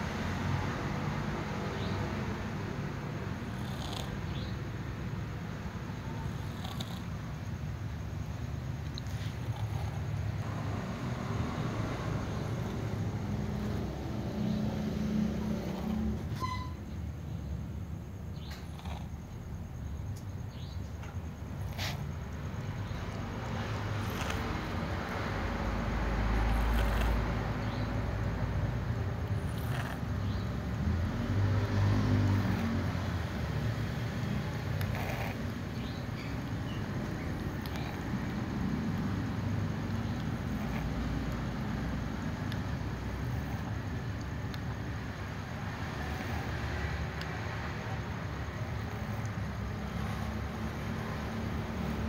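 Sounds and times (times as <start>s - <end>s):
distant road traffic rumble: 0.0s - 52.0s.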